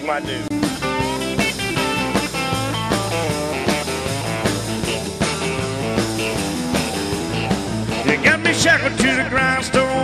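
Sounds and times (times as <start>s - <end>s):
bass line: 0.0s - 10.0s
country guitar lead lines: 0.0s - 10.0s
drum beat: 0.0s - 10.0s.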